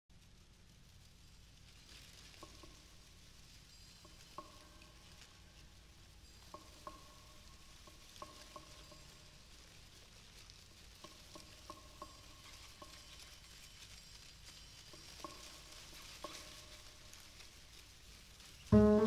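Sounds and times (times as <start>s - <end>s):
faint crackling hiss: 0.1s - 19.0s.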